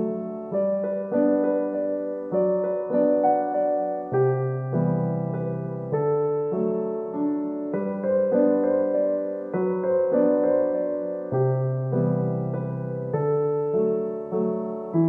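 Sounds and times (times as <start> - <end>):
slow solo piano piece: 0.0 - 15.0.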